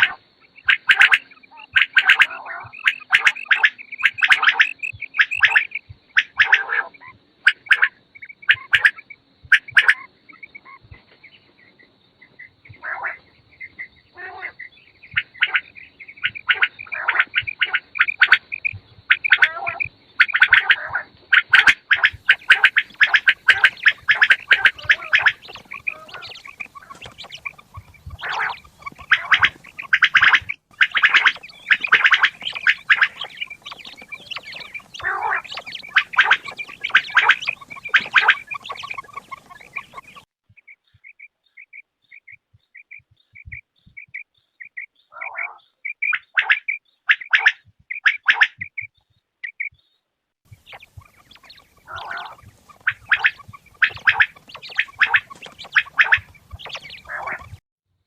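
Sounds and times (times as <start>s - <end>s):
quails calling: 0.0s - 57.6s.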